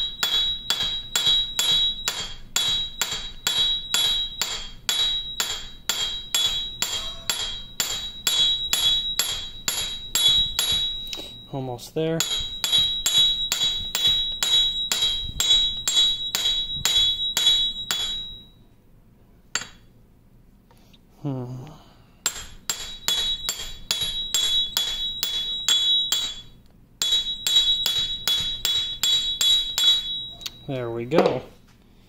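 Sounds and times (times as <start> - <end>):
hammer tapping on metal: 0.0 - 11.4, 12.2 - 18.5, 19.5 - 19.9, 22.2 - 30.6.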